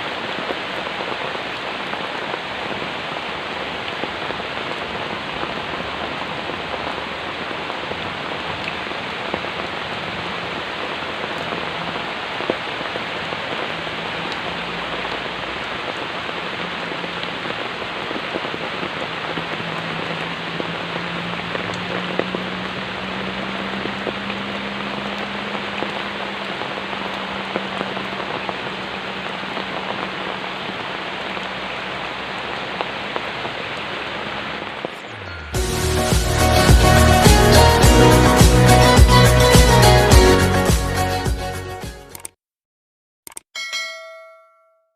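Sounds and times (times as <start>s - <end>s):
steady rain falling: 0.0s - 41.3s.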